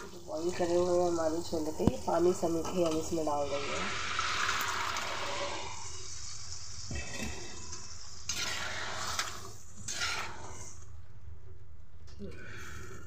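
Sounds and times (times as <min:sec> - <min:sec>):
spatula stirring: 0:00.0 - 0:11.0
chickpeas sizzling and bubbling in pan: 0:00.0 - 0:11.4.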